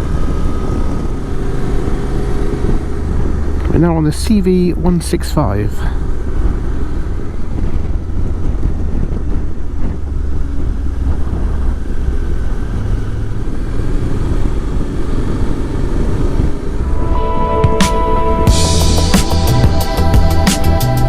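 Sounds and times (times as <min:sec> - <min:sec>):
wind rush on microphone: 0:00.0 - 0:20.5
motorcycle engine drone: 0:00.0 - 0:21.0.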